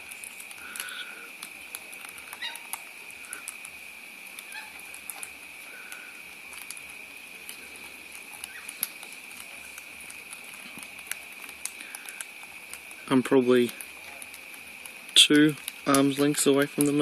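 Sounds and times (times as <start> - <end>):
birds chirping softly: 0.0 - 17.0.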